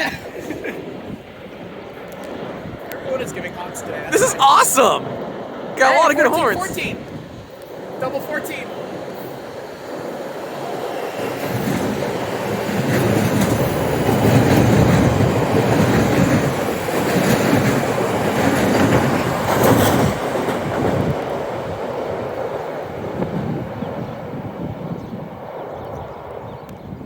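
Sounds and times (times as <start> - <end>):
train passing: 0.1 - 24.4.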